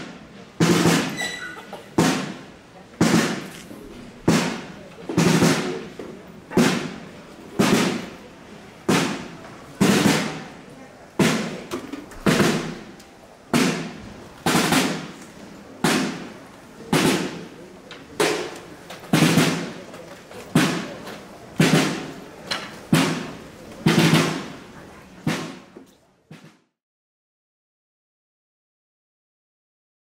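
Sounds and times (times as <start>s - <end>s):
drum beating slow march: 0.0s - 26.7s.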